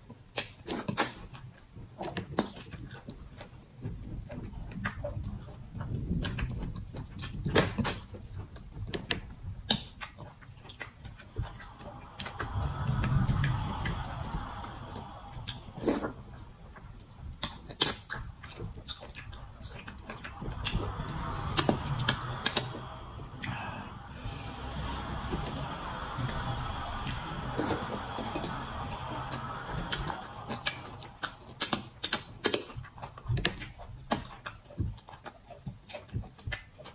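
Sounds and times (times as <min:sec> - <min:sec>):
wet chewing and lip smacking: 0:00.0 - 0:23.6, 0:29.6 - 0:36.9.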